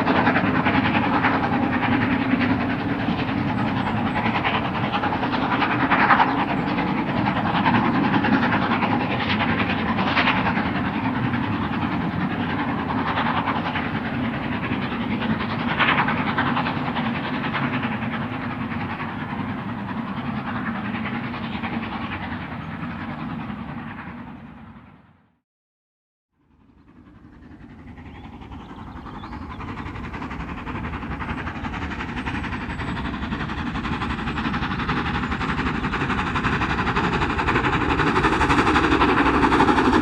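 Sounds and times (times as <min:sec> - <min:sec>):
steam locomotive working: 0:00.0 - 0:24.9, 0:26.4 - 0:40.0
train coaches on rails: 0:00.0 - 0:25.1, 0:26.6 - 0:40.0.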